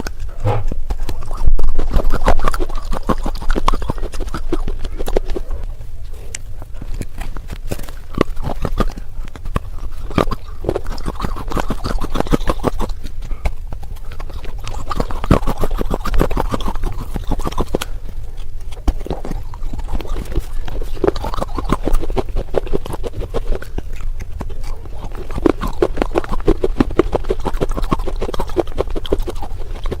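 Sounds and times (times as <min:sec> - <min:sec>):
clay crunching between teeth: 0:00.0 - 0:30.0.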